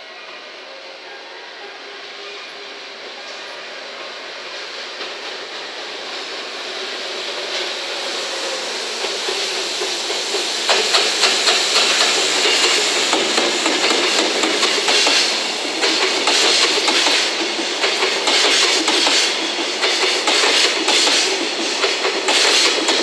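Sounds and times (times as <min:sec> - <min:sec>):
electric locomotive passing: 0:00.0 - 0:23.0.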